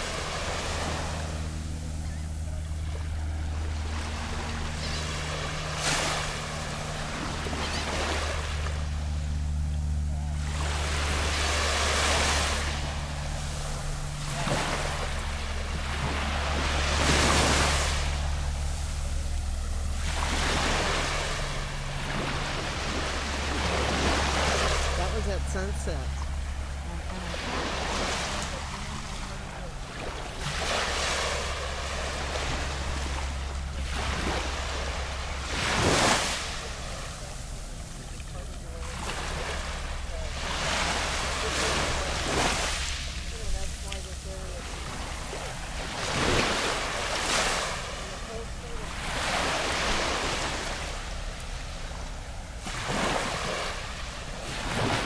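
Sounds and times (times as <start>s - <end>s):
low rumble: 0.0s - 46.0s
steady low hum: 0.0s - 55.0s
waves lapping on beach: 0.0s - 55.0s.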